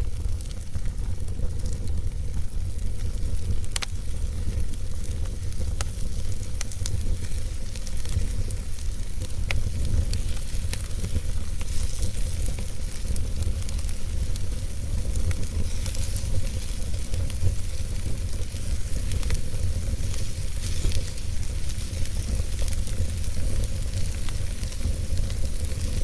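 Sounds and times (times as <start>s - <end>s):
wood fire burning: 0.0s - 26.0s.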